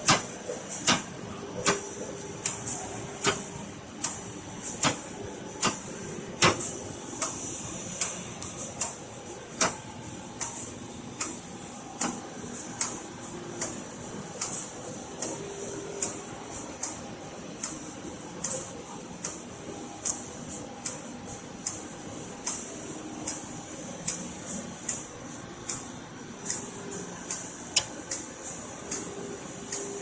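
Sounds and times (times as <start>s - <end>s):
sharp mechanical click: 0.0s - 12.2s, 12.8s - 13.8s, 14.4s - 17.0s, 17.6s - 21.0s, 21.6s - 30.0s
drying machine humming and hissing: 0.0s - 30.0s.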